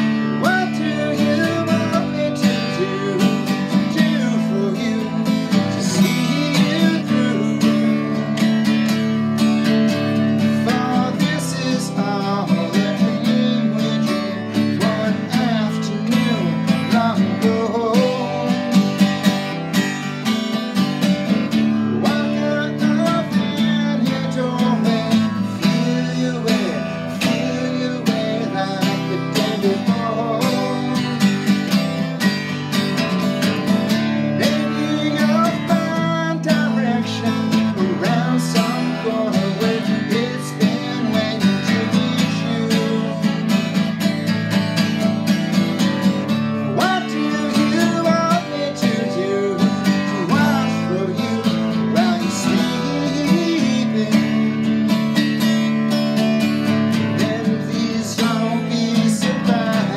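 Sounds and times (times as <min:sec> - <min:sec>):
man singing: 0:00.0 - 0:09.2, 0:09.9 - 0:20.1, 0:21.3 - 0:32.4, 0:33.6 - 0:44.1, 0:45.8 - 0:55.7, 0:56.6 - 0:59.9
acoustic guitar strumming: 0:00.0 - 0:59.9.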